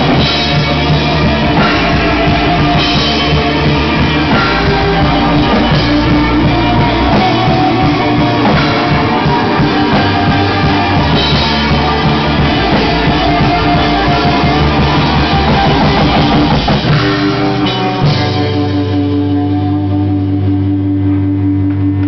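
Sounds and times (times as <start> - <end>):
distorted electric guitar: 0.0 - 22.0
drum kit: 0.0 - 22.0
punk rock band playing live: 0.0 - 22.0.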